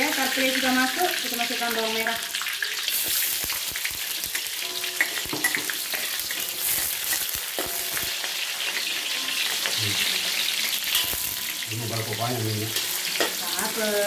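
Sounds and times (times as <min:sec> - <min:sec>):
onions sizzling in oil: 0:00.0 - 0:14.0
metal spatula scraping wok: 0:02.3 - 0:14.0.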